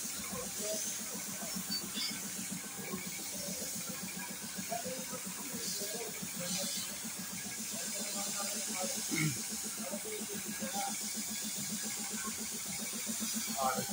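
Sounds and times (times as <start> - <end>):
paint spray gun hissing: 0.0 - 13.9.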